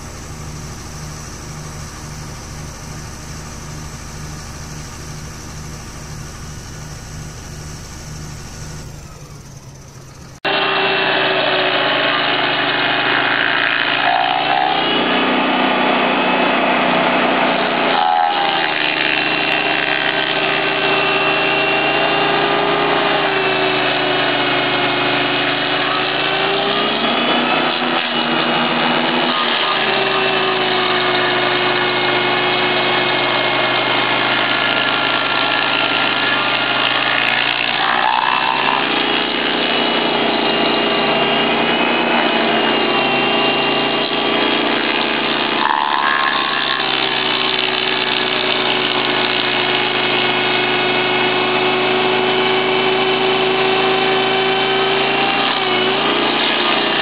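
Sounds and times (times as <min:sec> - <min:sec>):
stump grinder grinding stump: 0:00.0 - 0:57.0.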